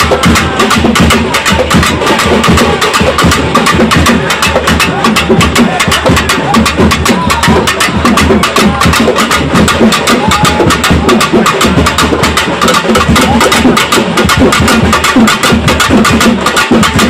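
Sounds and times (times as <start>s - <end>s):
drums beaten with sticks: 0.0s - 17.0s.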